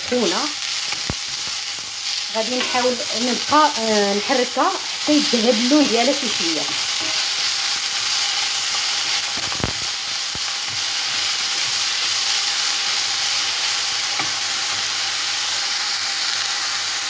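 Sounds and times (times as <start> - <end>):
onion sizzling in oil: 0.0 - 17.0.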